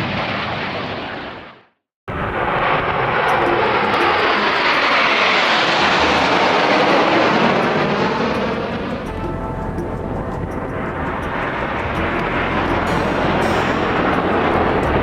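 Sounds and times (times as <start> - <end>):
jet aircraft roaring past: 0.0 - 15.0.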